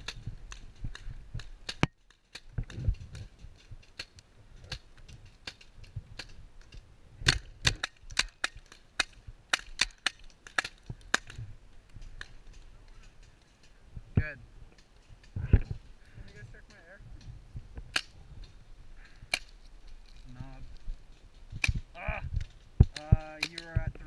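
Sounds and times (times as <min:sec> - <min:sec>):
paintballs smacking wood: 0:00.0 - 0:13.7, 0:17.8 - 0:20.2, 0:20.8 - 0:24.0.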